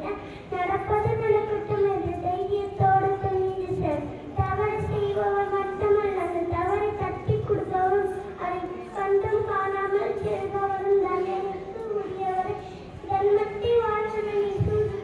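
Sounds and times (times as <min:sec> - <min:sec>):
girl singing into a microphone: 0:00.0 - 0:15.0.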